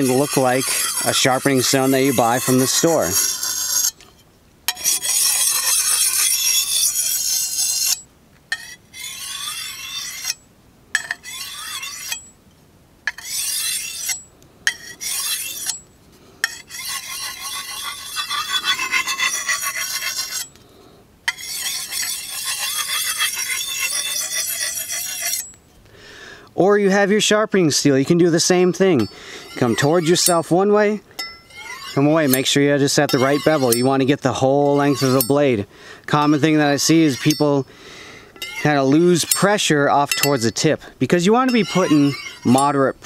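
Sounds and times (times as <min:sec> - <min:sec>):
machete scraping on whetstone: 0:00.0 - 0:10.4, 0:11.0 - 0:12.3, 0:13.1 - 0:15.8, 0:16.4 - 0:20.6, 0:21.3 - 0:25.6, 0:28.4 - 0:37.7, 0:38.4 - 0:43.0.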